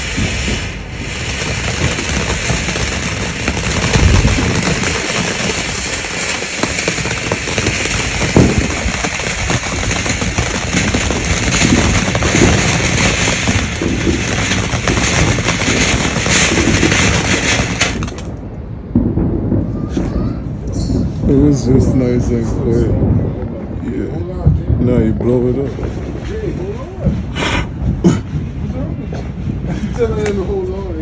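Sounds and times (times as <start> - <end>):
firework bang: 0.0 - 31.0
firework crackling and popping: 0.0 - 31.0.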